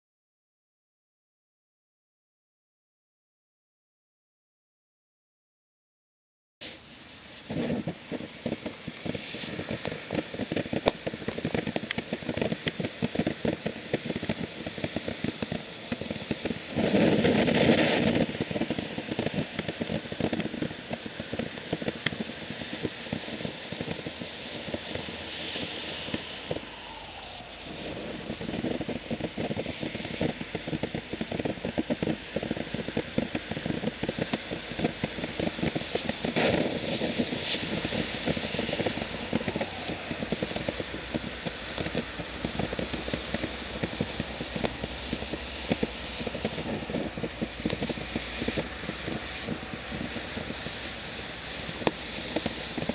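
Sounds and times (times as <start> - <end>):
firework hissing and crackling: 6.6 - 52.9.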